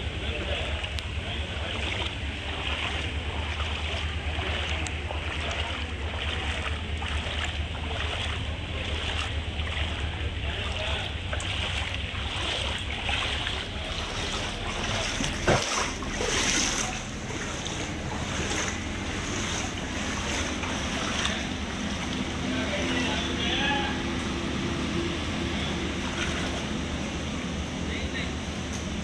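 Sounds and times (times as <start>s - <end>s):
rain and water noise: 0.0s - 23.6s, 25.5s - 28.2s.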